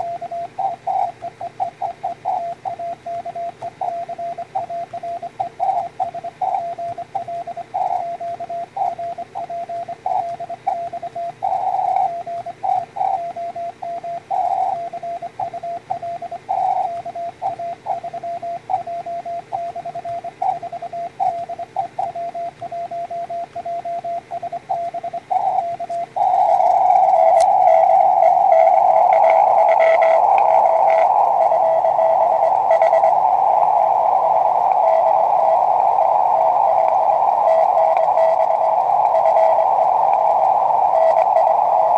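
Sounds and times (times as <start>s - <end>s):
morse code tone: 0.0s - 41.9s
radio band noise hiss: 0.0s - 41.9s.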